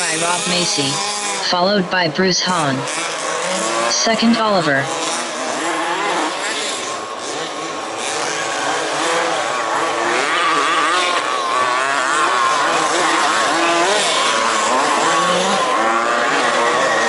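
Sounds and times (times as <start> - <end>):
small engines revving: 0.0 - 1.8, 2.5 - 17.0.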